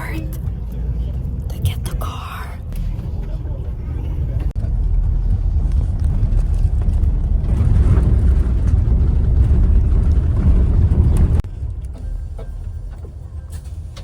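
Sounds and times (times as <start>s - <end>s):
moving bus rumbling: 0.0s - 14.0s.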